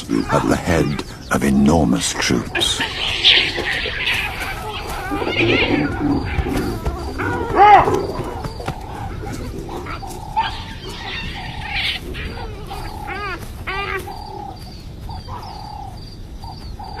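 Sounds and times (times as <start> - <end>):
wild animal calls: 0.0 - 17.0.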